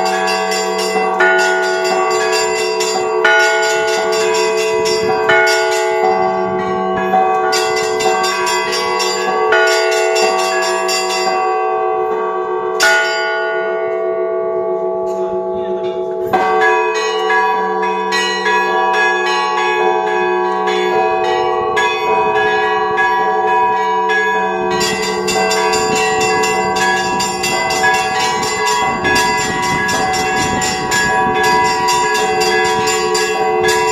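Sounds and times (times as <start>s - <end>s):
small bells chiming rapidly: 0.0s - 14.0s, 15.1s - 33.9s
heavy bell stroke: 0.0s - 33.9s
large bells humming: 0.0s - 33.9s.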